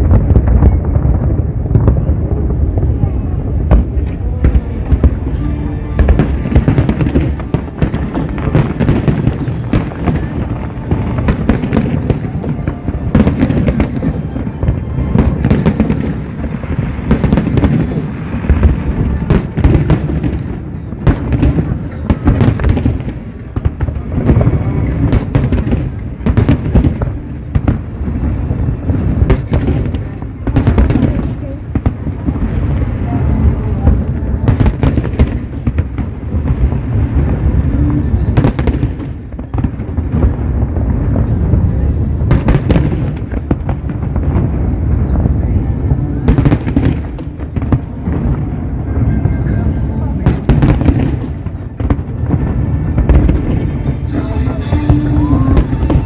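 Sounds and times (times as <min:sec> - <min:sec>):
fireworks bangs and crackles: 0:00.0 - 0:56.0
low booming: 0:00.0 - 0:56.0.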